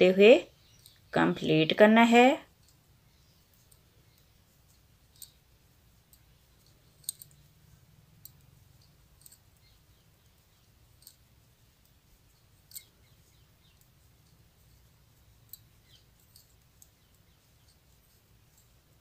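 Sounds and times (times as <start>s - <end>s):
knitting needles clicking: 0.6s - 1.2s, 2.5s - 19.0s.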